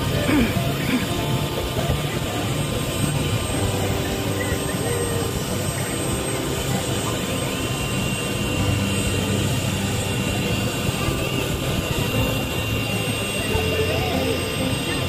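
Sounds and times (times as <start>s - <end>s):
helicopter rotor noise: 0.0s - 15.0s
high turbine whine: 0.0s - 15.0s.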